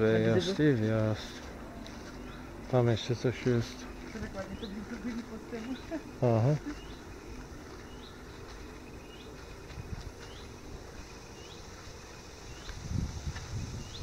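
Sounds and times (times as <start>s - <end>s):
crickets buzzing: 0.0s - 14.0s.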